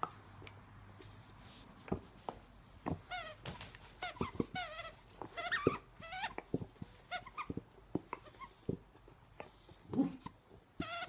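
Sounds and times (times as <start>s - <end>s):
dog chewing rubber toy: 0.0s - 11.0s.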